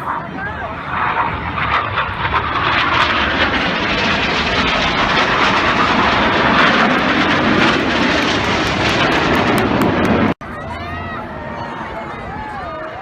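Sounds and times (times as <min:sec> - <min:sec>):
jets flying over: 0:00.0 - 0:13.0.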